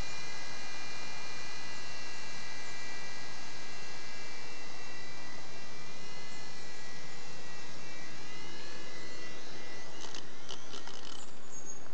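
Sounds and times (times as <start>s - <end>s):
toy helicopter rotors whining: 2.0s - 11.9s.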